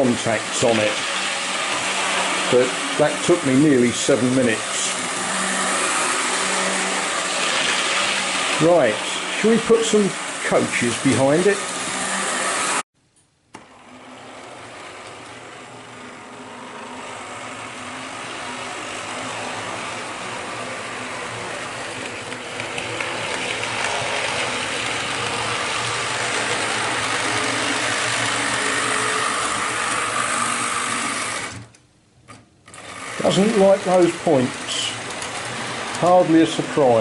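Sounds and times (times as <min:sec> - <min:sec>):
model train motor whirring: 0:00.0 - 0:12.8, 0:13.6 - 0:31.8, 0:32.7 - 0:37.0
wheels rattling over rail joints: 0:00.0 - 0:12.8, 0:13.9 - 0:31.6, 0:32.8 - 0:37.0.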